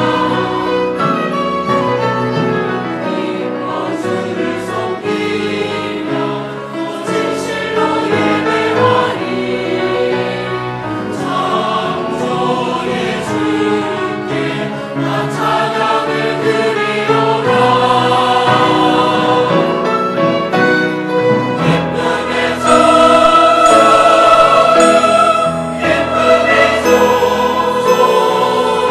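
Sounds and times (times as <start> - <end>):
church choir singing: 0.0 - 28.9.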